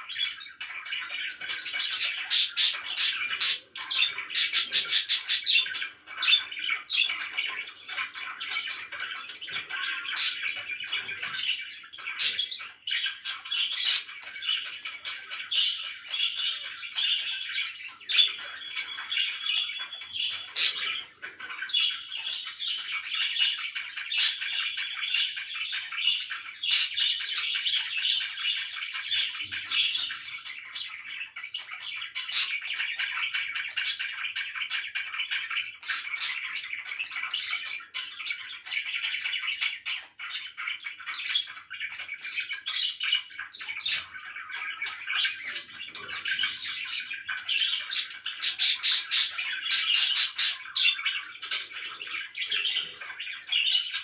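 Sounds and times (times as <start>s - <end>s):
budgerigars chattering and warbling: 0.0s - 54.0s
budgerigar squawks and chirps: 0.2s - 54.0s.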